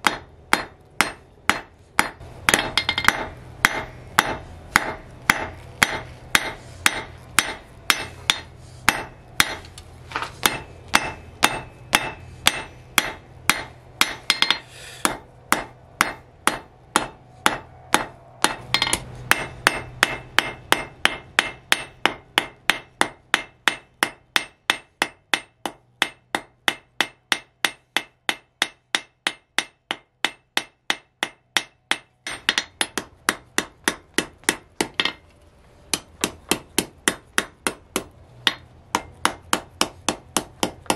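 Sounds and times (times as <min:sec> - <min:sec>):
hammer striking steel on anvil: 0:00.0 - 0:35.2, 0:35.9 - 0:40.9.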